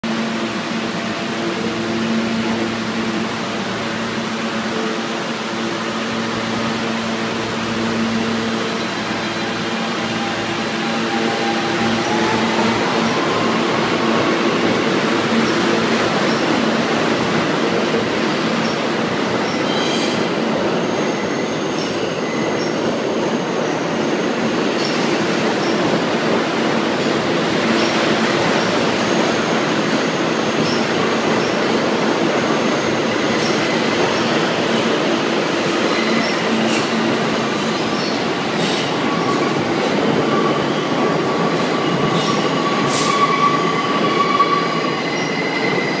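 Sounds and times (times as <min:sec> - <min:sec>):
subway train rumbling: 0:00.0 - 0:46.0.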